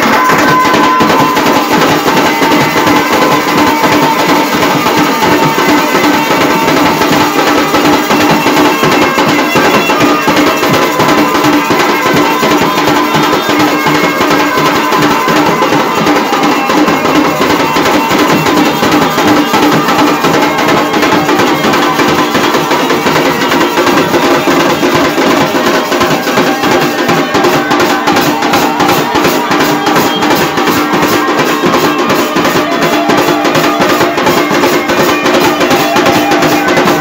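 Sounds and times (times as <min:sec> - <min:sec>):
drum band playing fast rhythm: 0:00.0 - 0:37.0.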